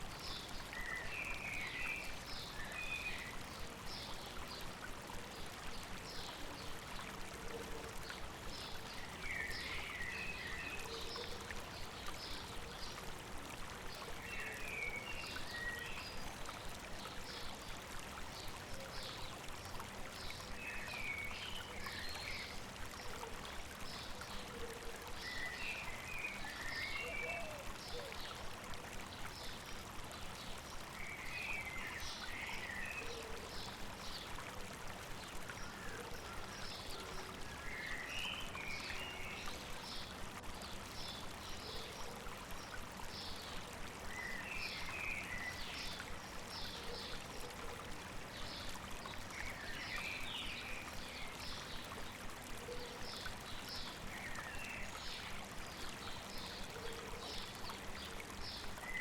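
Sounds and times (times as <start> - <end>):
stream babbling: 0.0 - 59.0.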